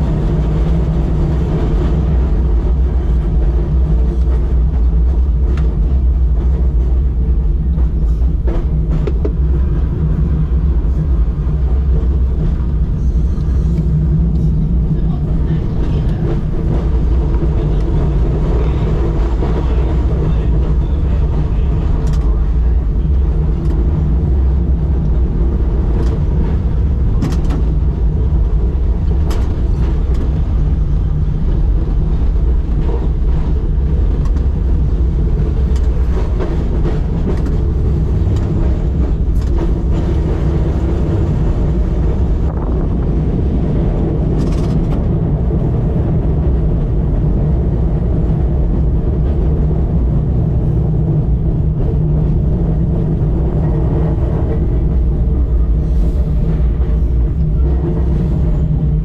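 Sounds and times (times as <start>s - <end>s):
tram rumbling on track: 0.0s - 59.0s.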